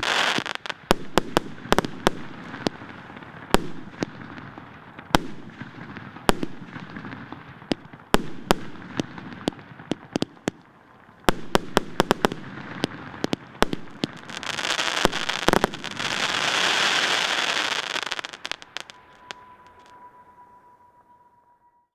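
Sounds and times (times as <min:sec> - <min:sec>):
dense rush of firework noise: 0:00.0 - 0:20.0
firework bangs: 0:00.0 - 0:20.3.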